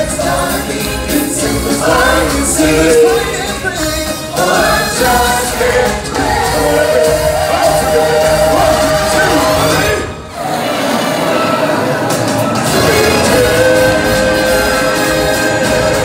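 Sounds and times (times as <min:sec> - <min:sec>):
musical accompaniment: 0:00.0 - 0:16.0
singers performing a song: 0:00.0 - 0:16.0.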